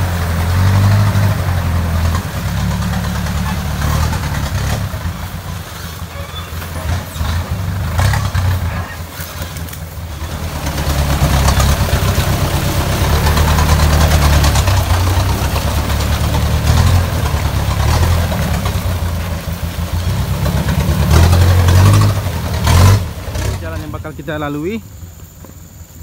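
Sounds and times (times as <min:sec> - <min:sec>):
constant hiss: 0:00.0 - 0:26.0
vehicle engine at low revs: 0:00.0 - 0:26.0.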